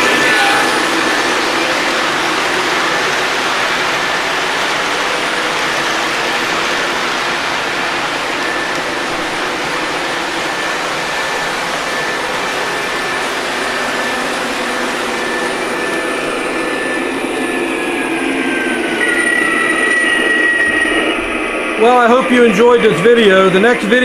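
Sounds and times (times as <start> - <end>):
model train rolling on track: 0.0 - 24.0
thin motor whine: 0.0 - 24.0.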